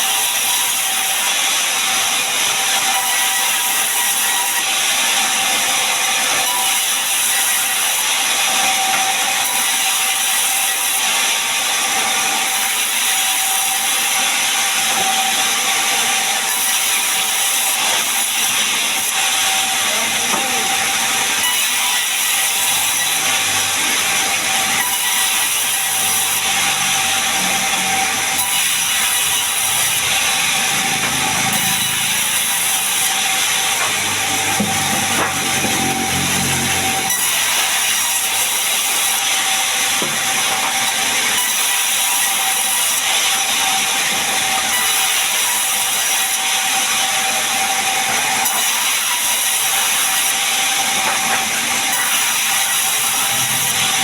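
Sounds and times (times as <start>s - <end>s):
sawmill saw cutting log: 0.0s - 54.0s.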